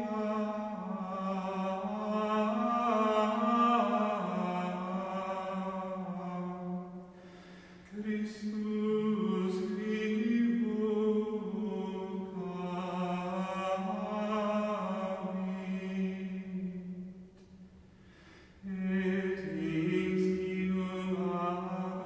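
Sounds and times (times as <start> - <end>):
voices singing a slow chant: 0.0 - 7.2, 7.8 - 17.2, 18.6 - 22.0.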